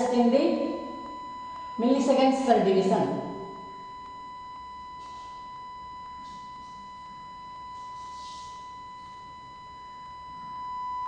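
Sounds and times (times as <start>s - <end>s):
sine wave test tone: 0.0s - 11.0s.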